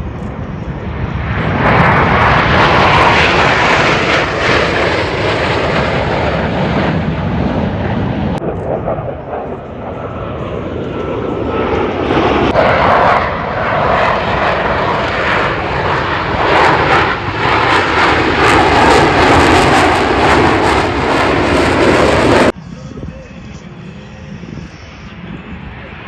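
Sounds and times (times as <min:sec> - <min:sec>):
jets flying past: 0:00.0 - 0:22.6.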